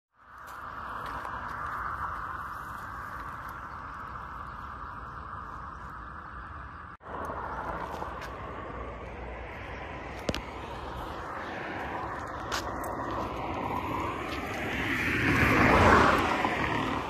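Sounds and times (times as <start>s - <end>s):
rushing outdoor background noise: 0.1s - 17.0s.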